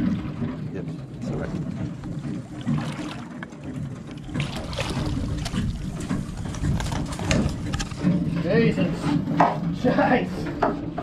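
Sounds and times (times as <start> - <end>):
water splashing and dripping: 0.0 - 9.8
sharp splashes and knocks: 0.0 - 9.9
low wind and water noise: 0.0 - 11.0.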